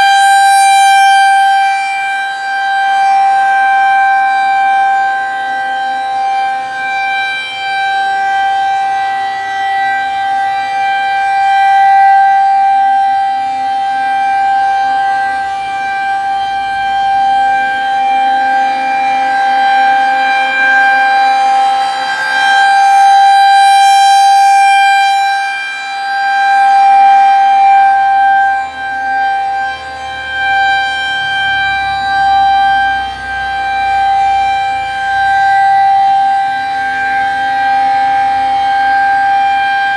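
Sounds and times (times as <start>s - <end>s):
tornado warning siren wailing: 0.0s - 39.9s.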